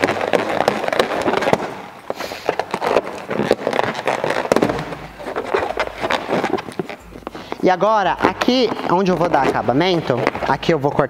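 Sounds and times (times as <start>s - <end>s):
balloons squeaking and crackling: 0.0s - 11.0s.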